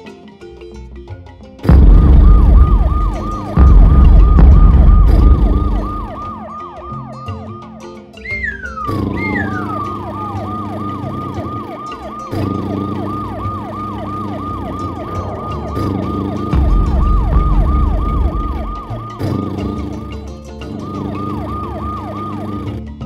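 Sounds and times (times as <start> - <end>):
low held tones: 1.7 - 22.8
cartoon siren wailing: 1.7 - 23.0
falling whistle glides: 2.2 - 22.7.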